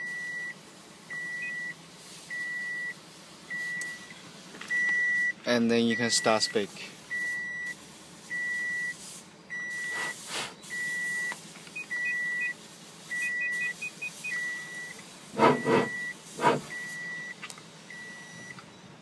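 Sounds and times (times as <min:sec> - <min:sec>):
car warning beeps: 0:00.0 - 0:18.9.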